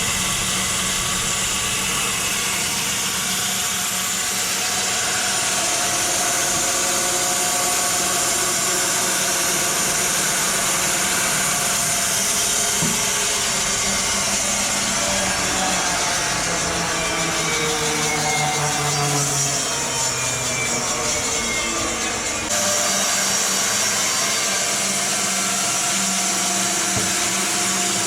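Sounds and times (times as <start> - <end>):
sawmill machinery hum: 0.0 - 28.0.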